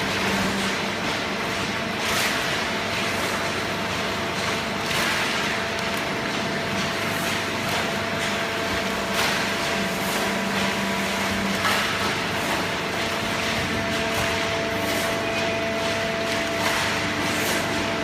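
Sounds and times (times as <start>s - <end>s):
baler machine hum: 0.0s - 18.0s.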